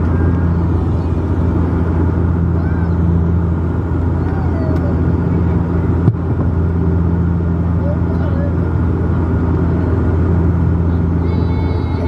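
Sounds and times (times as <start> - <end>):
propeller hum: 0.0 - 12.0.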